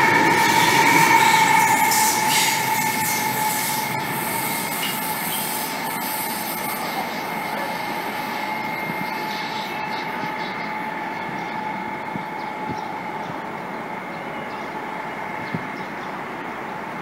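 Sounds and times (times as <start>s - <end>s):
electric train running: 0.0s - 17.0s
high traction motor hum: 0.0s - 17.0s.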